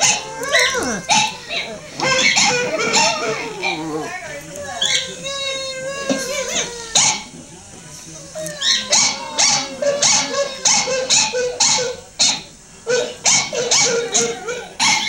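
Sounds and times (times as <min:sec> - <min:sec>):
dog yelping: 0:00.0 - 0:07.3, 0:08.2 - 0:15.0.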